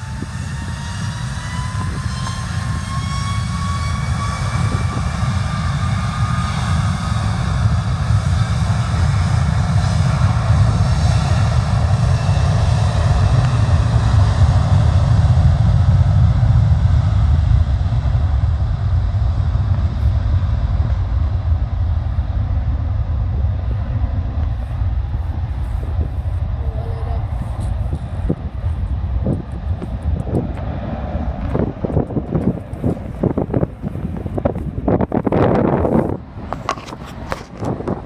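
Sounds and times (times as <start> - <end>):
jet engines whining and rumbling: 0.0 - 38.0.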